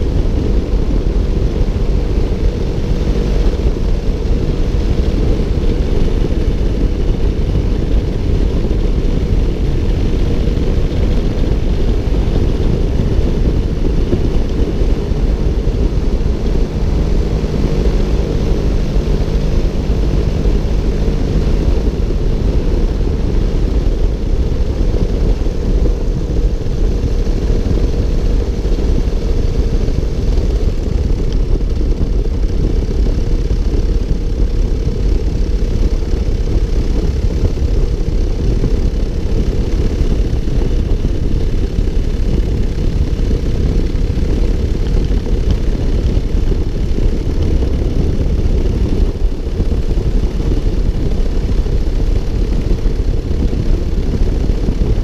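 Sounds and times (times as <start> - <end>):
paramotor engine and propeller: 0.0 - 55.0
wind rushing over microphone: 0.0 - 55.0.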